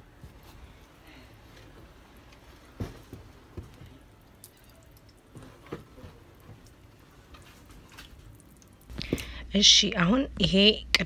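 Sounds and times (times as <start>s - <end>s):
batter squelching while stirred: 0.1s - 9.0s.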